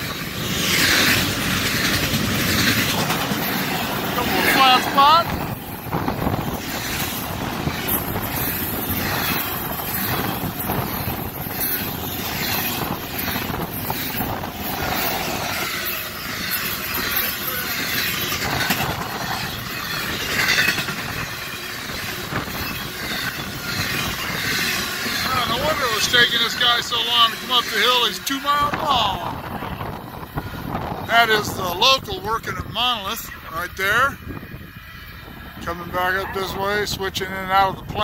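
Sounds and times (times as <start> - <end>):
locomotive passing: 0.0 - 38.0
steel wheels clattering on rails: 0.0 - 38.0.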